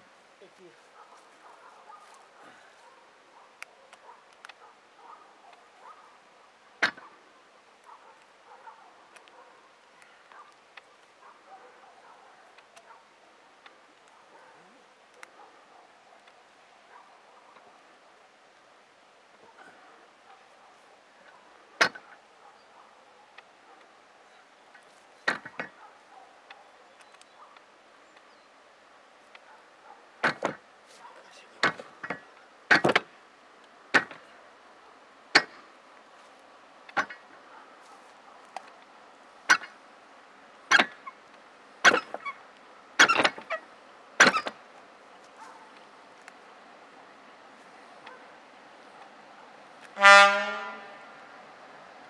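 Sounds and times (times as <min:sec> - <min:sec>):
faint steady background noise: 0:00.0 - 0:52.0.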